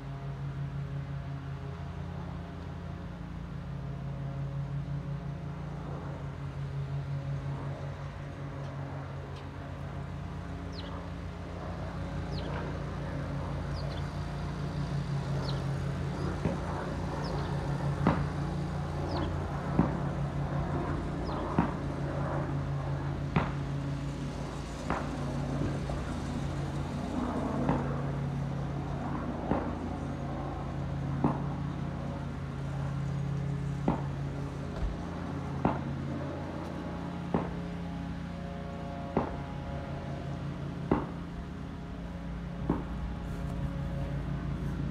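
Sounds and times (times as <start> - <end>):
low mechanical hum: 0.0 - 44.9.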